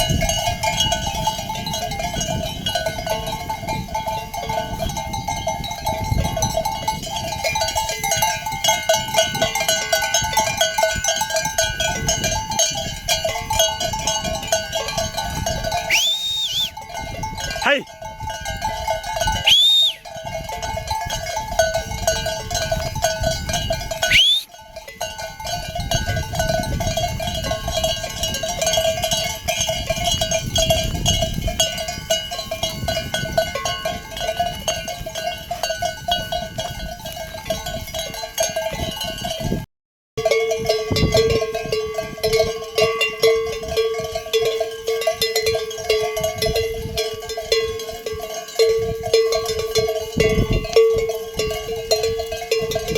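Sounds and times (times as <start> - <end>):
animal bells clanking: 0.0 - 52.9.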